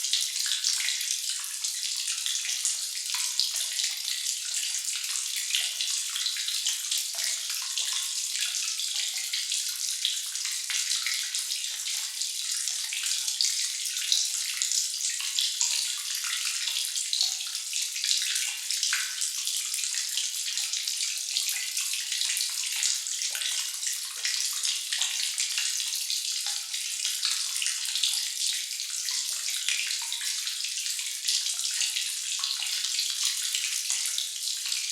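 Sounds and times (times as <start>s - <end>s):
water dripping and trickling: 0.0s - 34.9s.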